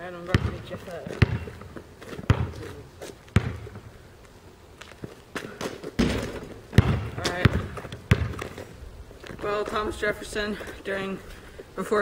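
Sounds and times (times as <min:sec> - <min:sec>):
basketball bouncing on pavement: 0:00.0 - 0:04.0, 0:04.9 - 0:10.7.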